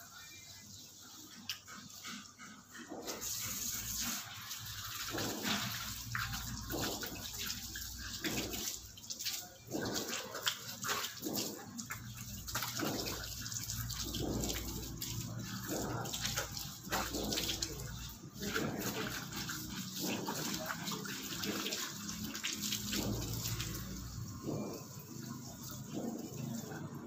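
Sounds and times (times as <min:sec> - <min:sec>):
water running from tap: 0:03.0 - 0:27.0
water splashing on tiled floor: 0:03.0 - 0:27.0.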